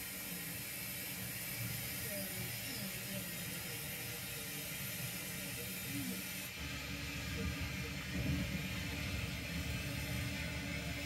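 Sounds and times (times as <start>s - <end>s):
model steam train running on track: 0.0s - 11.0s.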